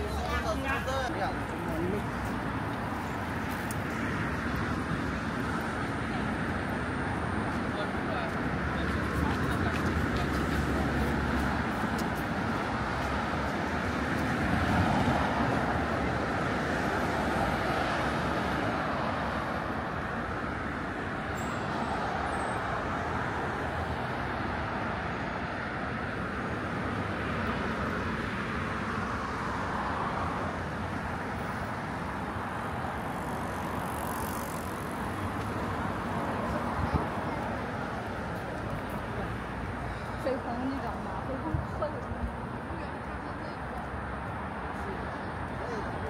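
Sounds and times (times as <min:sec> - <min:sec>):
cars passing: 0:00.0 - 0:46.0.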